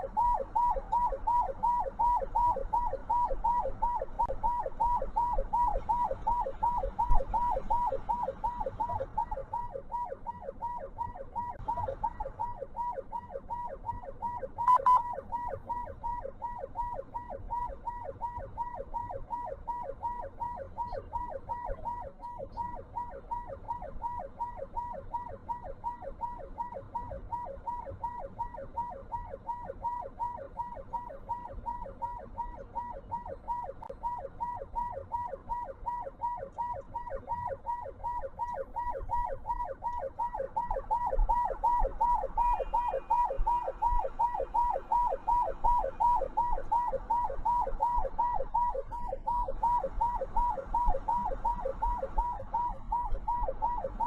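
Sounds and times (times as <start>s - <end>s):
siren yelping: 0.0s - 54.0s.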